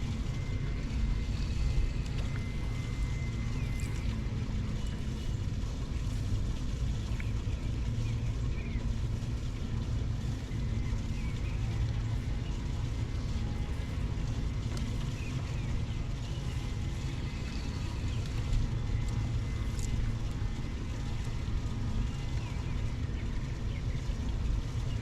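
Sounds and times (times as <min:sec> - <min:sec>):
boat motor humming: 0:00.0 - 0:25.0
water noise: 0:00.0 - 0:25.0
wind: 0:00.0 - 0:25.0.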